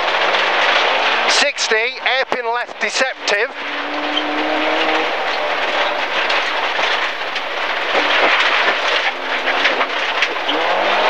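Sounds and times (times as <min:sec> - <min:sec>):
faint car engine: 0:00.0 - 0:11.0
tyre and road noise: 0:00.0 - 0:11.0.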